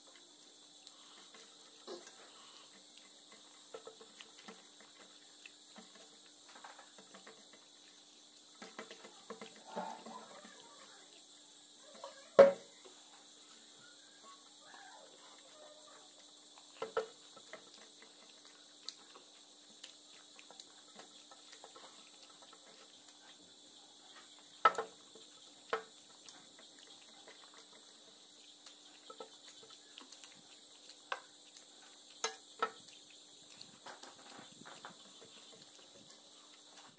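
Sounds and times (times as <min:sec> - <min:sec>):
crickets chirring: 0:00.0 - 0:36.9.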